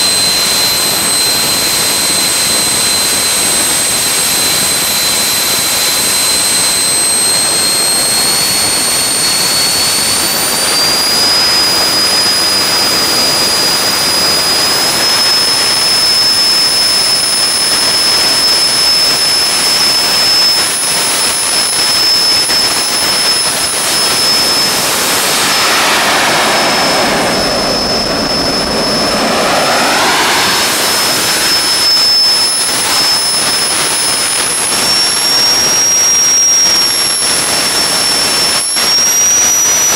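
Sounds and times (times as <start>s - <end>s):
jet engine roaring with whine: 0.0s - 39.9s.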